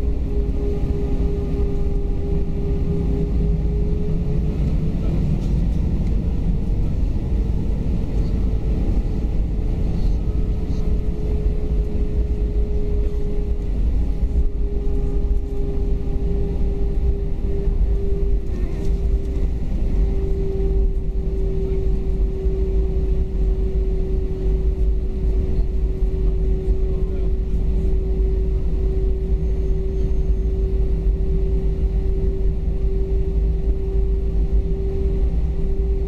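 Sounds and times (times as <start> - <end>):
jet engines rumbling: 0.0 - 36.0
steady mid-pitched hum: 0.0 - 36.0.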